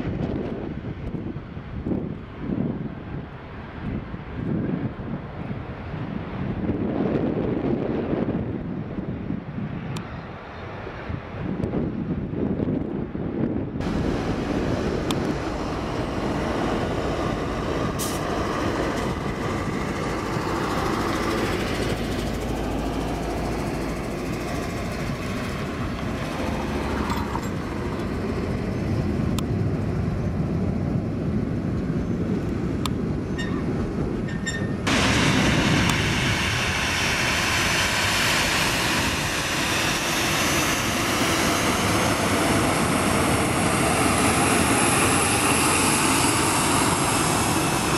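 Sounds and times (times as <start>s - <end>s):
jet engine rumble: 0.0s - 47.9s
jet engines taxiing close: 0.0s - 47.9s.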